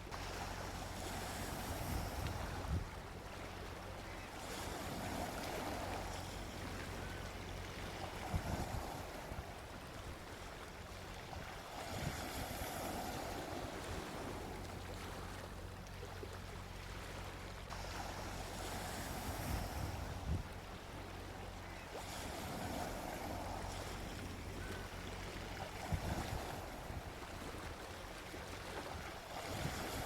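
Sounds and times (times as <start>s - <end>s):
sea waves washing onto beach: 0.0s - 30.0s.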